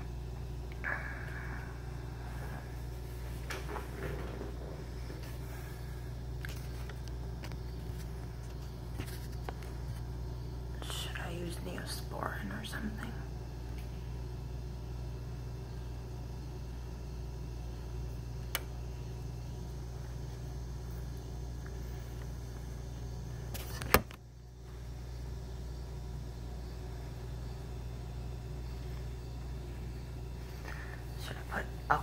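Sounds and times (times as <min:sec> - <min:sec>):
low room hum: 0:00.0 - 0:32.0.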